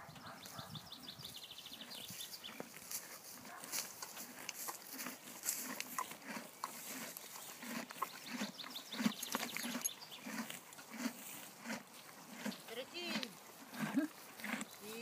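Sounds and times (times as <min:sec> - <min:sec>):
horse chewing grass: 0:00.4 - 0:15.0.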